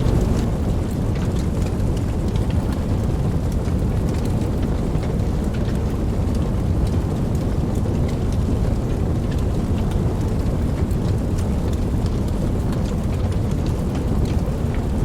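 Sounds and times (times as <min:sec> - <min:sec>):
deep low rumble: 0:00.0 - 0:15.0
heavy rain patter: 0:00.0 - 0:15.0.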